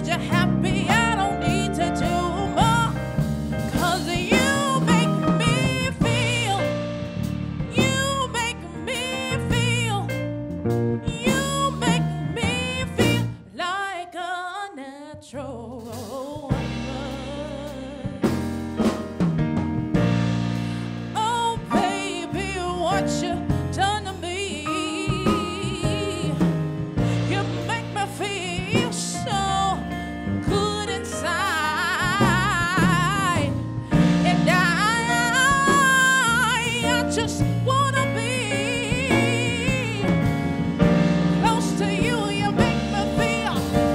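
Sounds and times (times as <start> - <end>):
woman singing: 0.0 - 6.9, 7.7 - 10.2, 11.0 - 18.5, 21.2 - 40.4, 41.4 - 43.9
live band with drums and bass: 0.0 - 13.4, 15.8 - 43.9.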